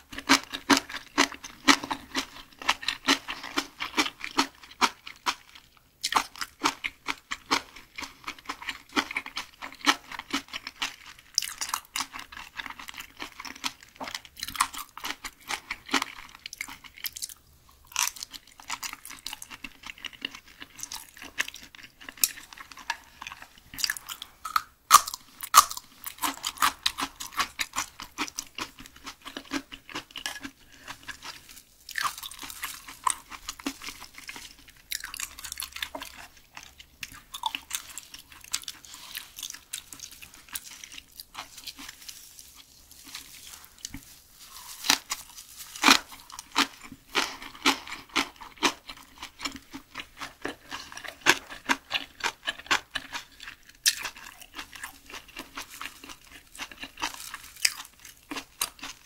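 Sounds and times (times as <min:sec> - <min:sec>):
mouth chewing with clicks and smacks: 0:00.0 - 0:59.0.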